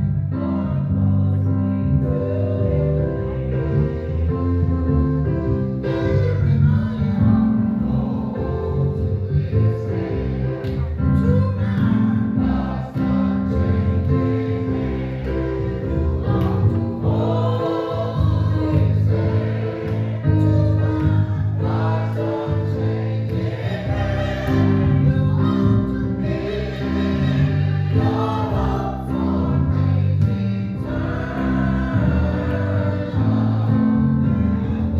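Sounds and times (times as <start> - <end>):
choir singing a gospel hymn: 0.0 - 34.9
instrumental accompaniment: 0.0 - 34.9.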